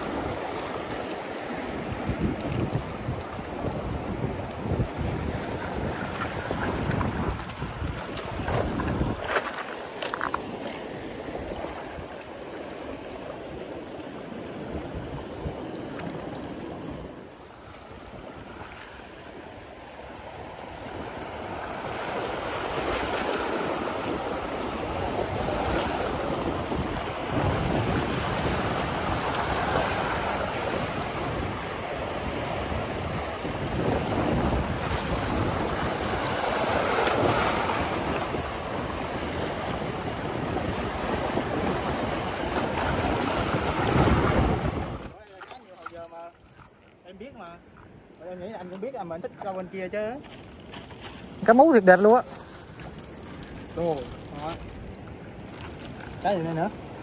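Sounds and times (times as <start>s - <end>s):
wind buffeting microphone: 0.0s - 45.8s
surf washing on rocky shore: 0.0s - 57.0s.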